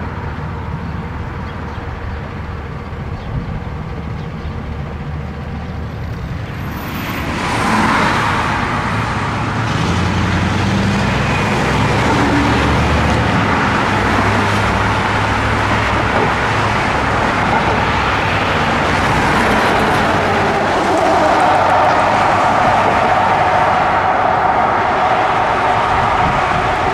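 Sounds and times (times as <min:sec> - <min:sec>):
road traffic rushing: 0:00.0 - 0:26.9.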